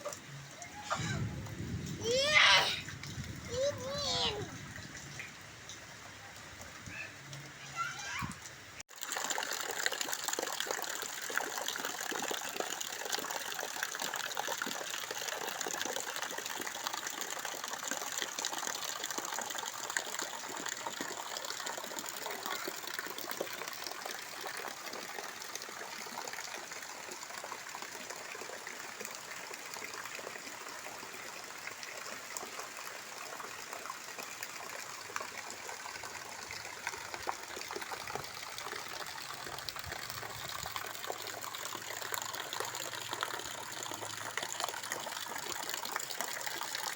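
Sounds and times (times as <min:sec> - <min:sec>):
rainwater pouring and splashing: 0:00.0 - 0:46.9.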